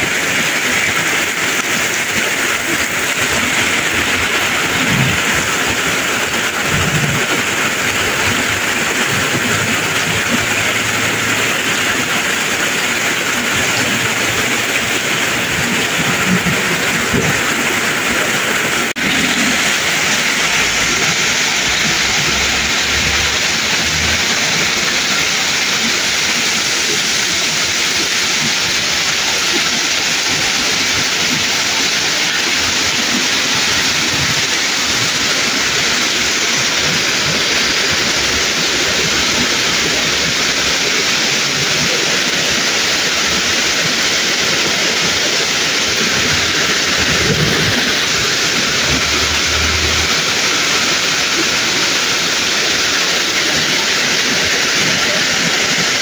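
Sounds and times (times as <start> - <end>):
torrential rain on pavement: 0.0 - 56.0.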